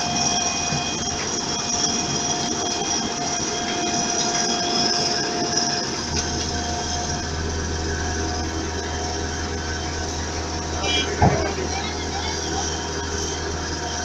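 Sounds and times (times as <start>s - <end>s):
deep steady hum: 0.0s - 14.0s
diesel engine running: 0.0s - 14.0s
high machine whine: 0.0s - 14.0s.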